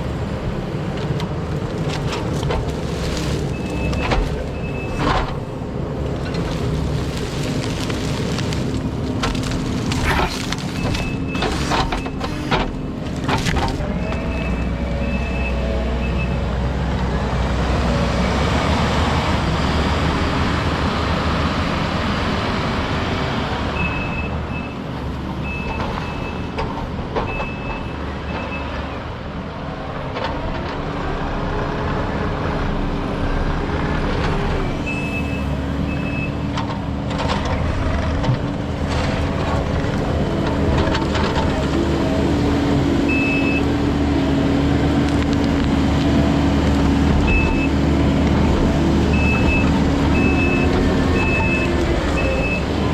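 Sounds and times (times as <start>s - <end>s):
heavy vehicle engine: 0.0s - 52.9s.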